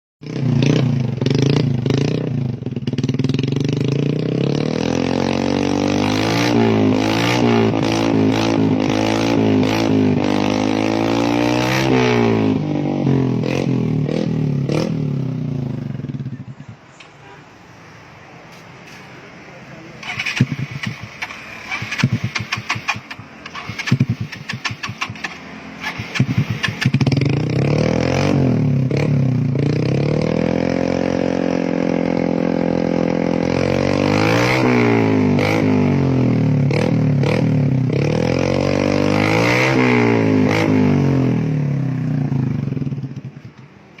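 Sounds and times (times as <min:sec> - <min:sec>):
motorcycle engine revving: 0:00.2 - 0:16.9, 0:20.0 - 0:44.0.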